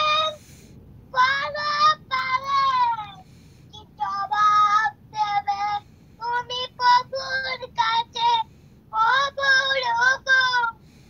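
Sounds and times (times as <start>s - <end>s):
boy singing unaccompanied: 0.0s - 0.4s, 1.1s - 10.8s.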